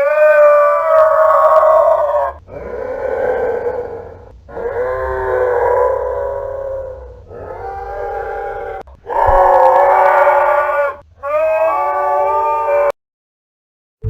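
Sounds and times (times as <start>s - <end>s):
camel calling: 0.0s - 12.9s.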